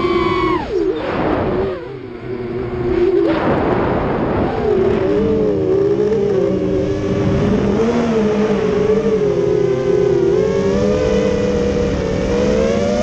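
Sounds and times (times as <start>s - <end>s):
quadcopter motors whining: 0.0s - 3.4s, 4.5s - 13.0s.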